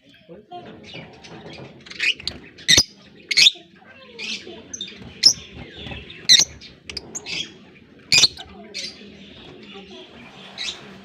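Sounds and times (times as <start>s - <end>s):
birds chirping and chattering: 0.1s - 11.0s.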